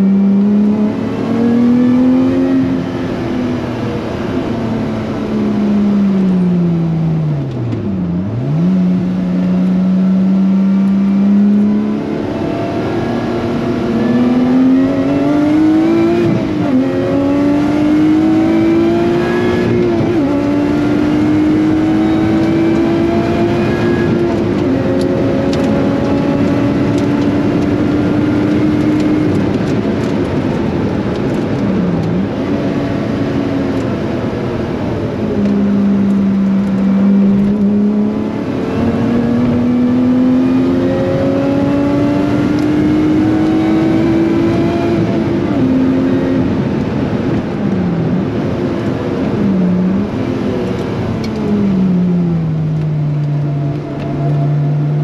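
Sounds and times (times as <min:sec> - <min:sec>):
car engine revving hard: 0:00.0 - 0:05.4, 0:08.2 - 0:31.6, 0:32.2 - 0:52.4.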